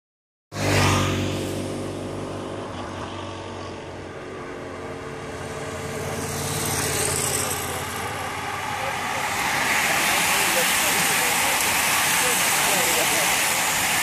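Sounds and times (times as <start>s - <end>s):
motorcycle approaching: 0.5s - 13.8s
steady engine hum: 0.9s - 14.0s.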